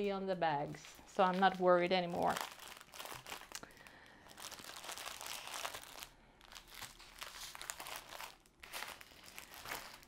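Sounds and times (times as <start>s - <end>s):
plastic wrap crinkling: 0.6s - 10.0s.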